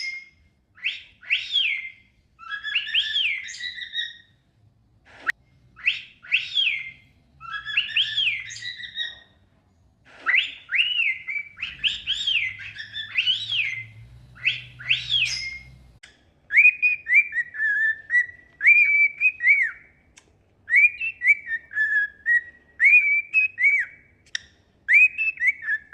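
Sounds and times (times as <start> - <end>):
cockatiels whistling: 0.0 - 4.3, 5.8 - 9.4, 10.2 - 20.0, 20.7 - 25.9.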